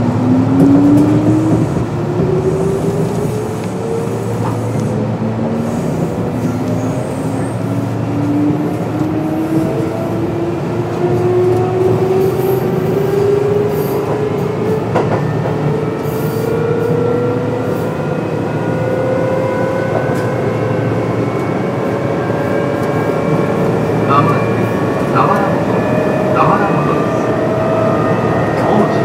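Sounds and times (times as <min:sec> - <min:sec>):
wheels rumbling on rail: 0:00.0 - 0:29.0.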